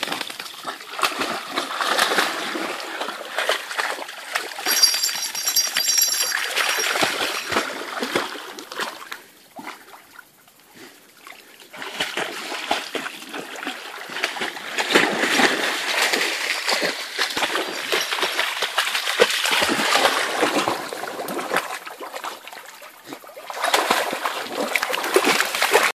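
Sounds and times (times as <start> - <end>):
dogs splashing through water: 0.0 - 5.0, 5.8 - 25.9.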